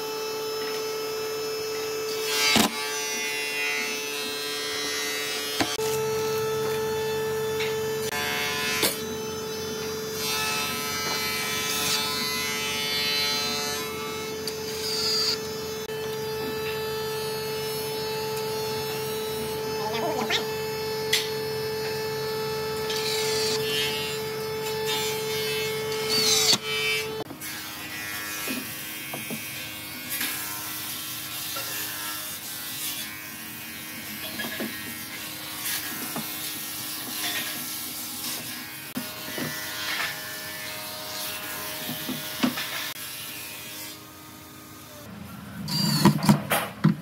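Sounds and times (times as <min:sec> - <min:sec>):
small electric motor humming: 0:00.0 - 0:45.1.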